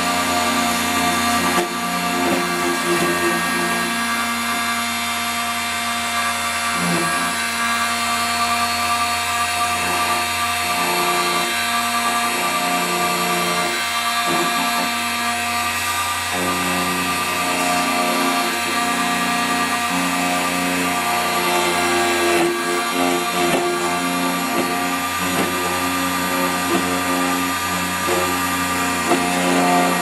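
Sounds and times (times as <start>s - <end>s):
key cutting machine whining: 0.0s - 30.0s.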